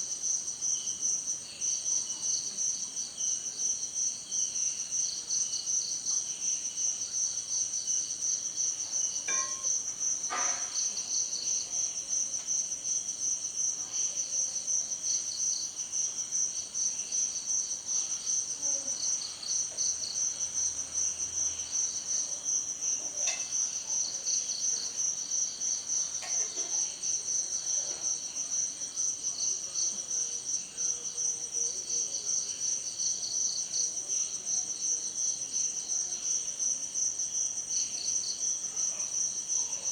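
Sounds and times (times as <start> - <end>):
crickets chirping: 0.0 - 39.9
lower insect chirp: 0.1 - 39.9.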